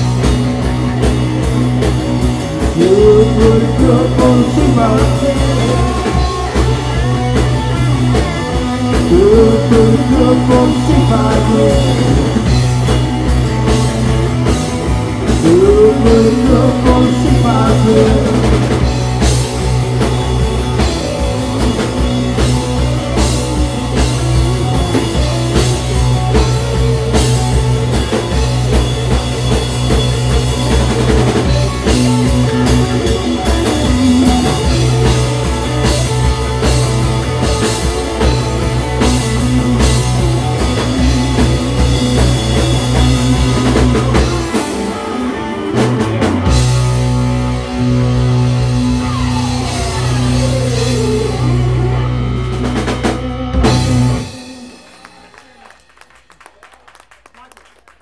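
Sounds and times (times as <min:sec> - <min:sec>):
electric bass: 0:00.0 - 0:55.2
electric guitars: 0:00.0 - 0:56.4
drum kit: 0:00.0 - 0:57.2.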